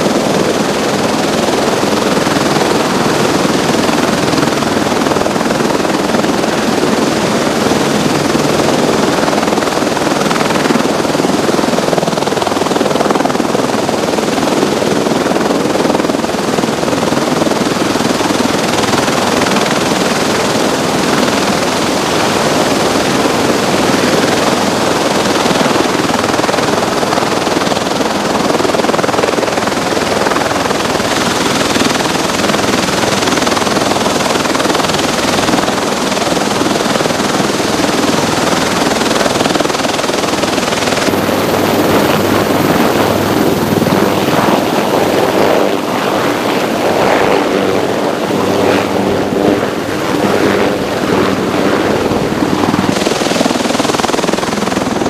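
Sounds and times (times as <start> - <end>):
helicopter hovering: 0.0 - 55.0
tiltrotor aircraft rotors whirring: 0.0 - 55.0.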